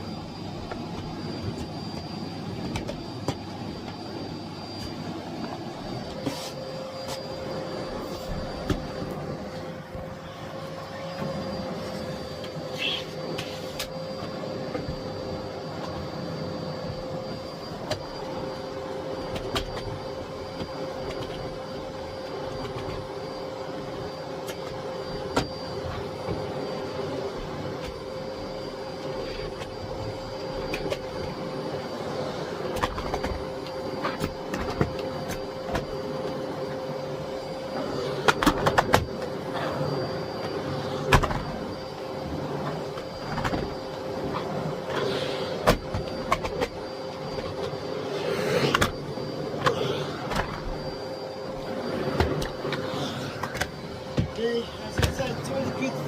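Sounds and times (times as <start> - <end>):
vacuum cleaner motor whining: 0.0 - 56.0.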